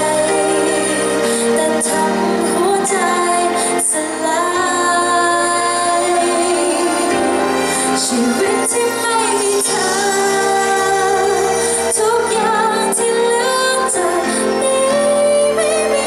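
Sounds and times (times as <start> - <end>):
woman singing pop song: 0.0 - 16.0.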